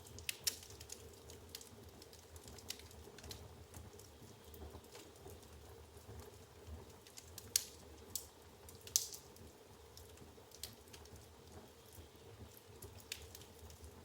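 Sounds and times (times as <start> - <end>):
faint low rumble of fire: 0.0 - 14.0
firewood crackling and popping: 0.0 - 14.0.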